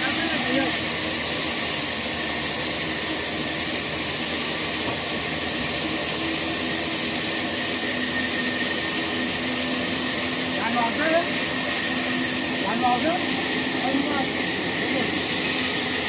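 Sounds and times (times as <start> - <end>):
band saw cutting log: 0.0 - 16.0
low machine hum: 0.0 - 16.0.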